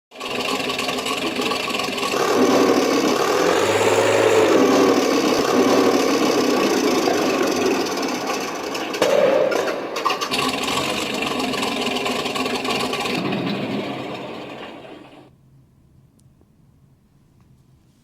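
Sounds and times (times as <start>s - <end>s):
simulated tank engine from speaker: 0.1s - 15.3s.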